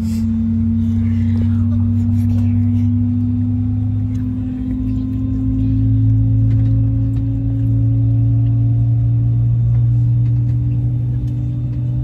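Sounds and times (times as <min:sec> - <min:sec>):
jet engine drone: 0:00.0 - 0:12.0.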